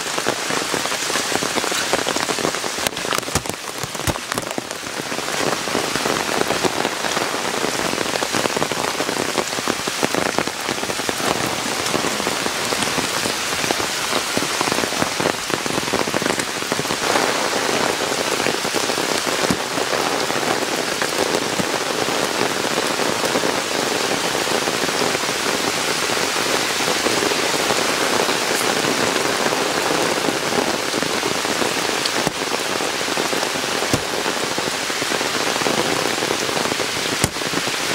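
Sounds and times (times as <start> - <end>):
heavy rain on foliage: 0.0 - 37.9.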